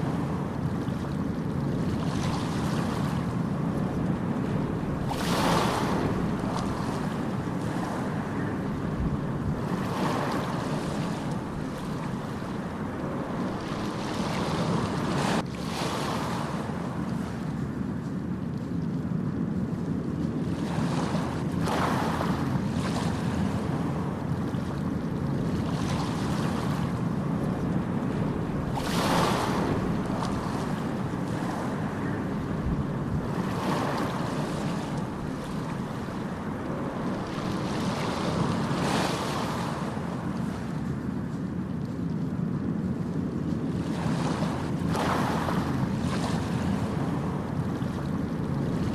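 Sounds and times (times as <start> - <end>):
ocean waves rushing: 0.0 - 17.7, 20.5 - 41.4, 43.1 - 48.9.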